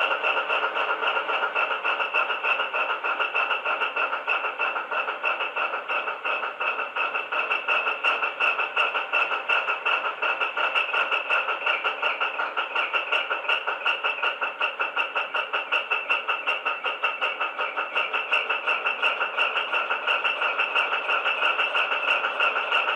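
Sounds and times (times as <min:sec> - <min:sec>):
diesel engine idling through small speaker: 0:00.0 - 0:22.9.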